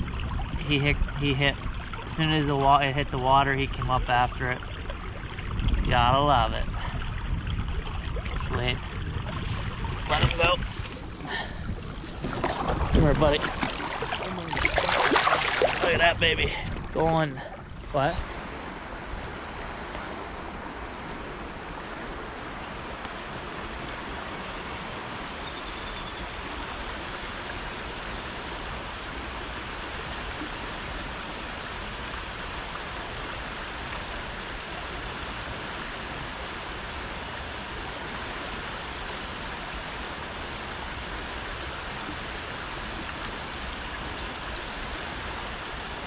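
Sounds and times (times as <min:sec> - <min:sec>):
flowing river water: 0:00.0 - 0:46.0.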